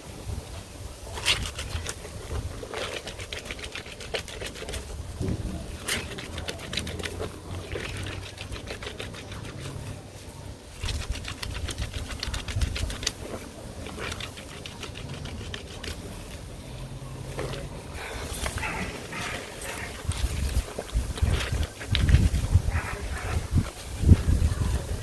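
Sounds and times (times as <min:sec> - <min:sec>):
clothes scrubbed in soapy water: 0:01.1 - 0:25.0.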